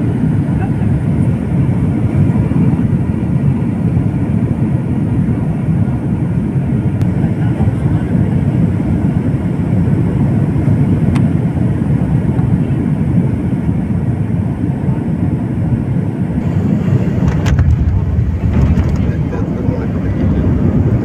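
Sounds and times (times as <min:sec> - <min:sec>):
airliner cabin engine rumble: 0:00.0 - 0:21.0.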